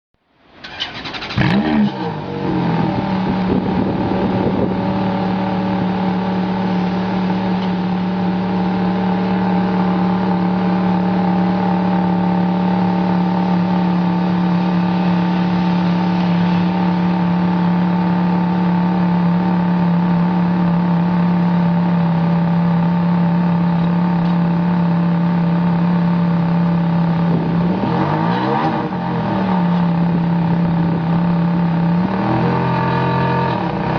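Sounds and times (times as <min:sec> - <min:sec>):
car engine starting and idling: 0:00.2 - 0:33.9.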